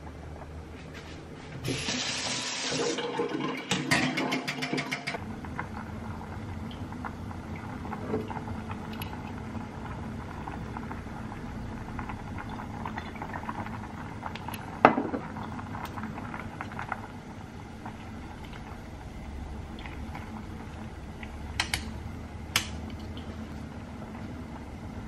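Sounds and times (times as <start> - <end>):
water boiling in a pot: 1.6 - 25.0.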